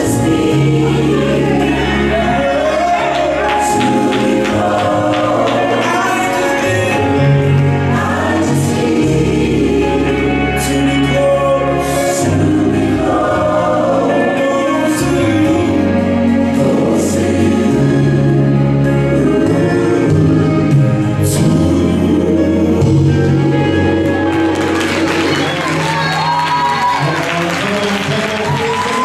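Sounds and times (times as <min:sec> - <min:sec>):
choir singing over a band: 0:00.0 - 0:29.0
sustained bass notes: 0:00.0 - 0:29.0.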